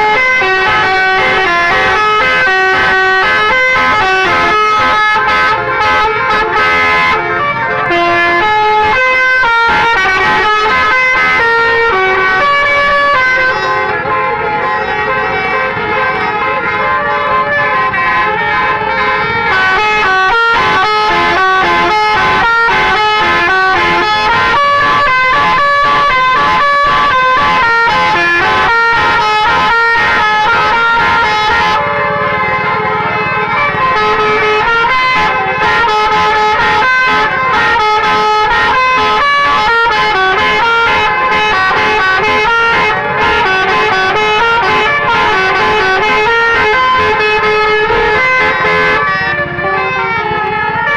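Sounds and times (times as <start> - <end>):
musical bus air horn tune: 0.0 - 50.9.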